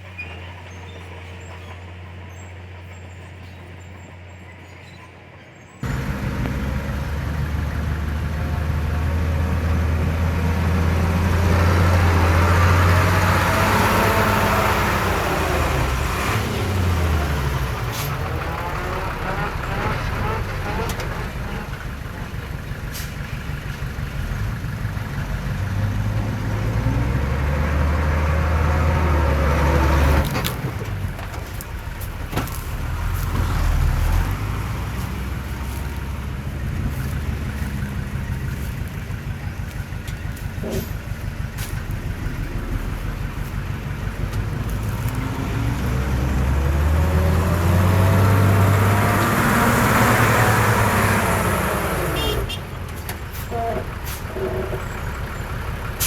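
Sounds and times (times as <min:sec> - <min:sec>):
heavy diesel engine revving: 0:05.8 - 0:56.0.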